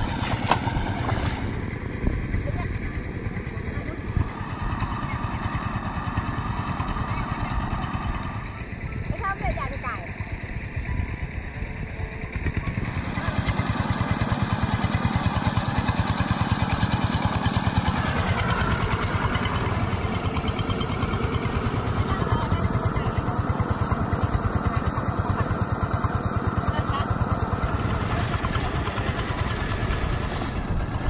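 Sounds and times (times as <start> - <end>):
walking tractor engine running: 0.0 - 31.0.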